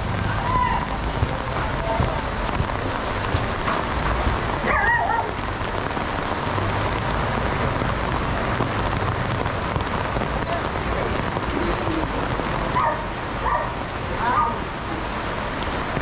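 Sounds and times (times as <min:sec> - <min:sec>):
rain falling on street: 0:00.0 - 0:16.0.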